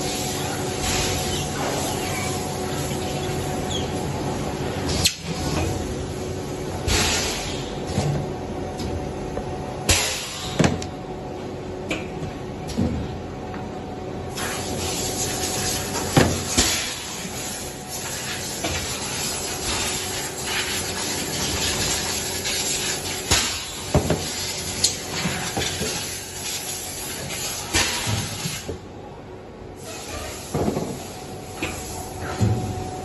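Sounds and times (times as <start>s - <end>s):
faint machine hum: 0.0s - 33.0s.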